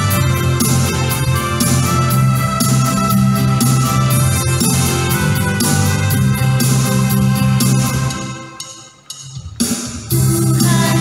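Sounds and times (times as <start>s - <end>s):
song backing track with drums: 0.0s - 11.0s.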